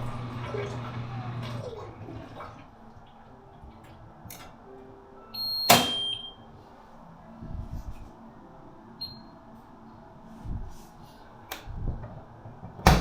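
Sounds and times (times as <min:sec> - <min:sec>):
washing machine motor whine: 0:00.0 - 0:10.8.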